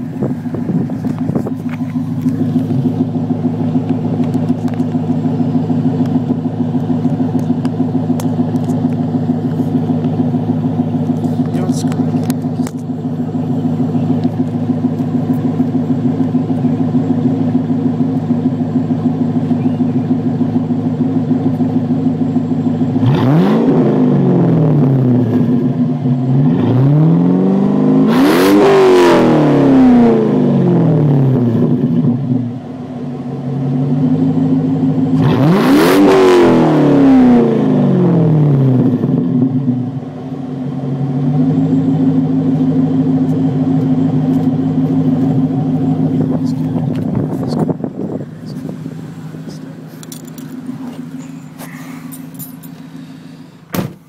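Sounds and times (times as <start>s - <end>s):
car engine idling: 0.0s - 26.6s, 28.8s - 54.0s
car engine revving: 0.0s - 53.8s.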